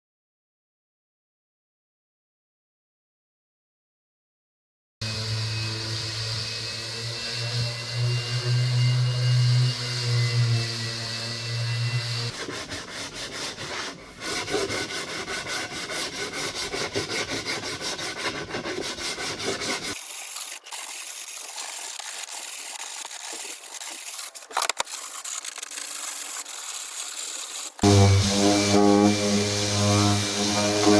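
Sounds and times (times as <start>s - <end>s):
sandpaper rasping on wood: 5.9s - 30.9s.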